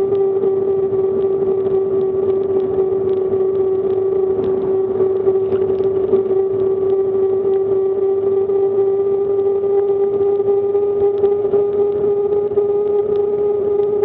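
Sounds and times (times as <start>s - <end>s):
constant one-pitched hum: 0.0s - 14.0s.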